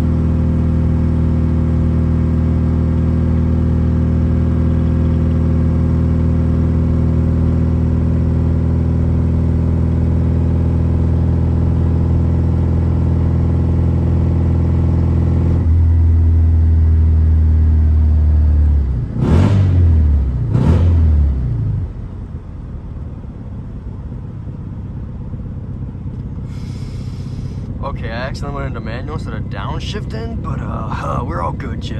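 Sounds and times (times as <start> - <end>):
car engine with loud exhaust: 0.0 - 31.9.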